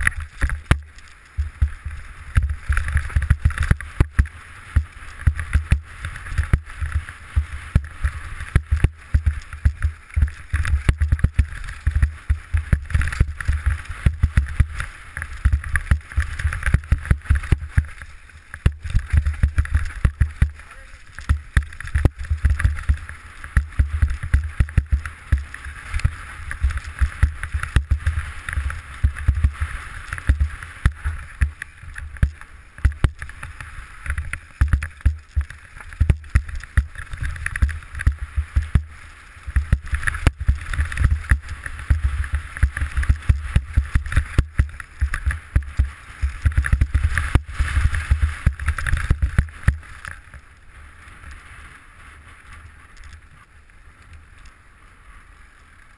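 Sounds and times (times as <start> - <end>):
bike knocking and rattling: 0.0 - 50.6.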